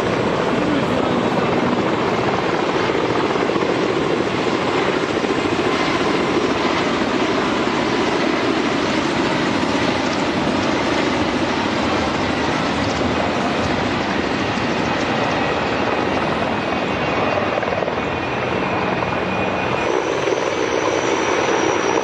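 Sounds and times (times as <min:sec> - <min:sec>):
helicopter rotor and engine drone: 0:00.0 - 0:22.0.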